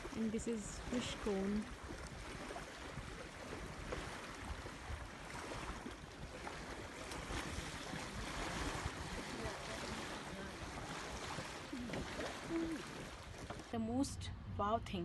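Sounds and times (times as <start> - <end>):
wind rushing on microphone: 1.4 - 13.5.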